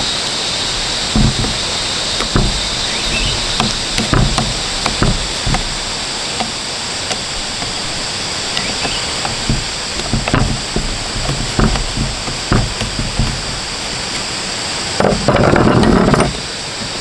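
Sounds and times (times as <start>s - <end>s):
knocks and taps on metal parts: 0.7s - 14.4s.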